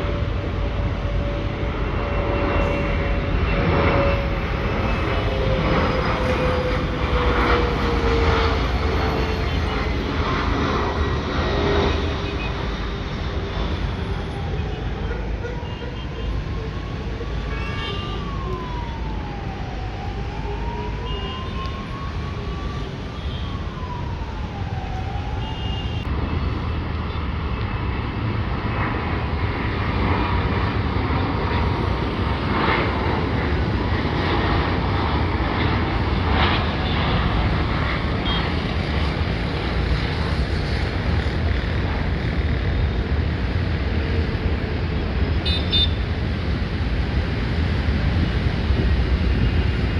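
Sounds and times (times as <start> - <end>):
siren wailing: 0.0 - 26.8, 29.9 - 49.9
jet landing roar: 0.0 - 49.9.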